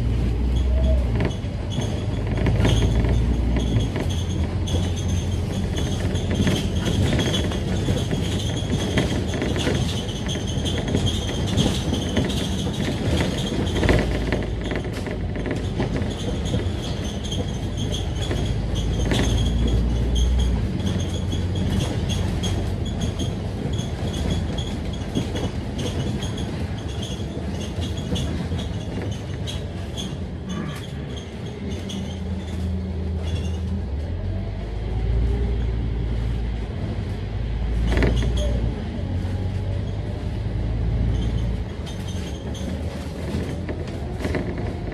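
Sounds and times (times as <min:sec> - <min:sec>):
bus engine: 0:00.0 - 0:44.9
body rattles and clicks: 0:00.1 - 0:44.9.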